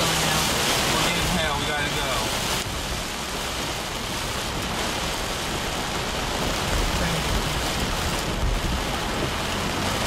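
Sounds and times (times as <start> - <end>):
wind and rain: 0.0 - 10.0.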